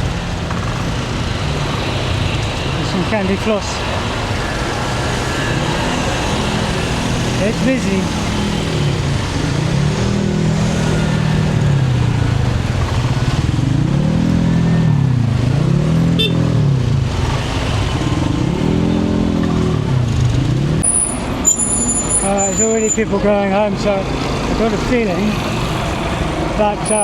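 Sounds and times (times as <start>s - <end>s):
motorcycle engines speeding up: 0.0s - 27.0s
road traffic: 0.0s - 27.0s.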